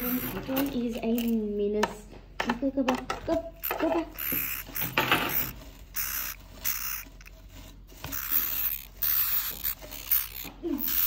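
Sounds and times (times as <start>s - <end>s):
scratchy scraping and rustling: 0.0s - 1.6s, 3.6s - 11.0s.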